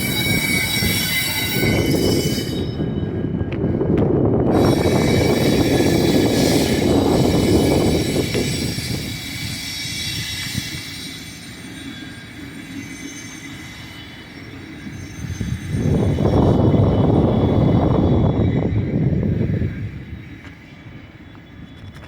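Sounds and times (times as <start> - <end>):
wind buffeting microphone: 0.0 - 11.1, 14.8 - 22.0
freight train rumble: 0.0 - 22.0
wheels squealing on rail: 0.0 - 22.0.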